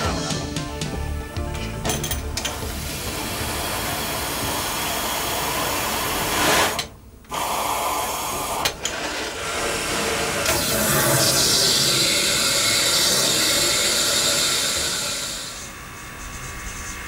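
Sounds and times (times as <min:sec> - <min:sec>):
steam hissing: 0:02.7 - 0:17.0.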